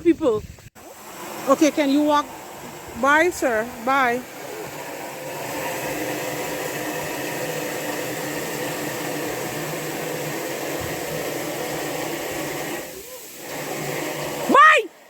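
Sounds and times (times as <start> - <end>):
hissing noise: 0.4 - 15.0
machine hum: 0.8 - 15.0.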